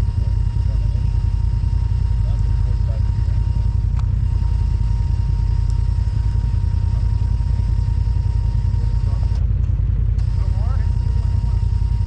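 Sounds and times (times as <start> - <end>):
engine low rumble: 0.0 - 12.0
faint steady whine: 0.0 - 12.0.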